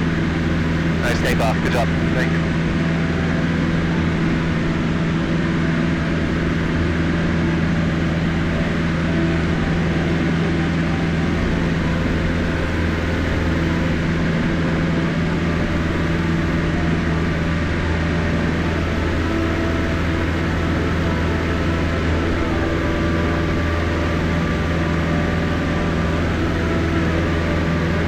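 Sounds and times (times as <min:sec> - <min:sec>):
airplane engine and propeller drone: 0:00.0 - 0:28.0.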